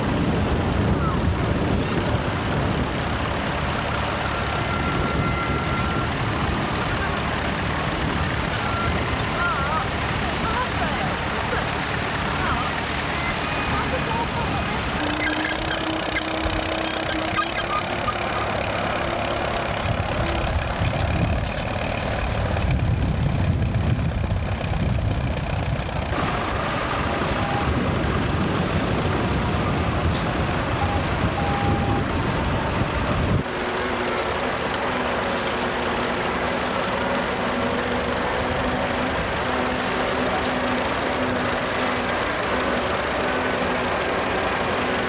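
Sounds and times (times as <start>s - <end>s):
tractor engine rumbling: 0.0s - 45.0s.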